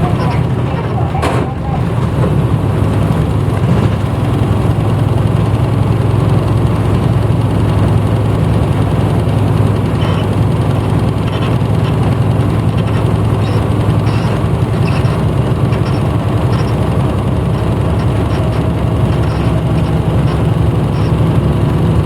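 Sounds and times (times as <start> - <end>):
bus engine humming: 0.0 - 22.0.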